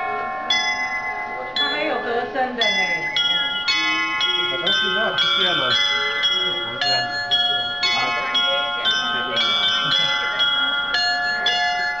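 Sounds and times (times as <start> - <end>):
glockenspiel bells playing a tune: 0.0 - 12.0
people talking: 0.0 - 12.0.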